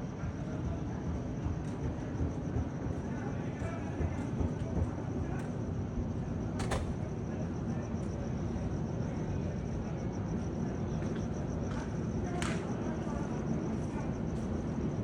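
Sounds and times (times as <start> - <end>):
jet aircraft rumble overhead: 0.0 - 15.0.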